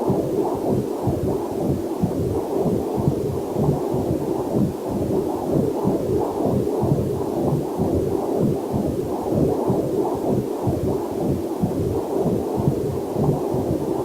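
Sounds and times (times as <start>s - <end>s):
doppler heartbeat whooshing: 0.0s - 14.0s.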